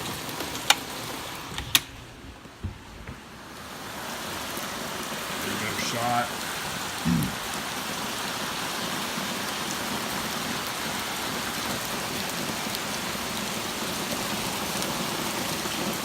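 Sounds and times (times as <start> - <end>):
torrential rain pattering: 0.0 - 16.0.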